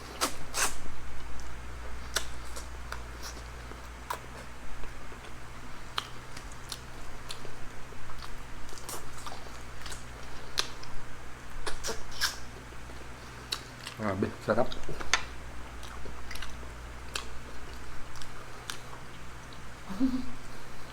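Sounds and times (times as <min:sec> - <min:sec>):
people chewing food: 0:00.0 - 0:20.9
steady low hum: 0:00.0 - 0:20.9.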